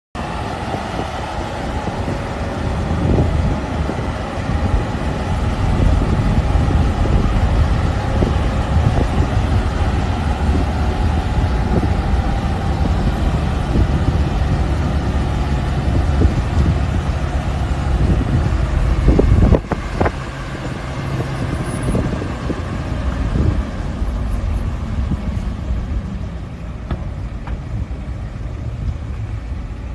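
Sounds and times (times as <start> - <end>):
vehicle engine and road noise: 0.2 - 29.9.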